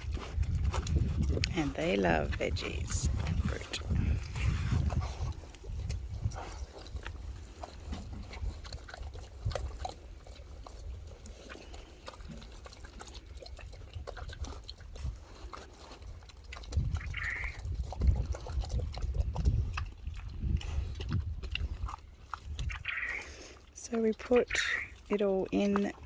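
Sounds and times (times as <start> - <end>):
pigs crunching and chewing: 0.0 - 26.0.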